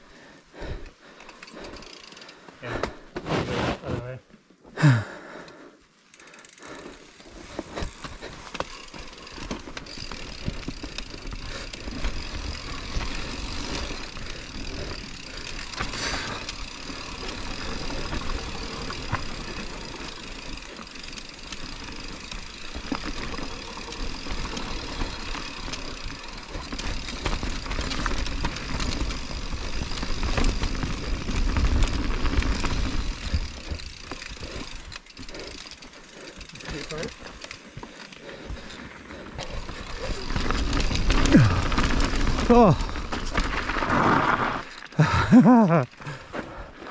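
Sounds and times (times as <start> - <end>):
bike tyres on dirt: 0.0 - 46.9
bike chain and frame rattling: 0.2 - 3.1, 6.0 - 46.8.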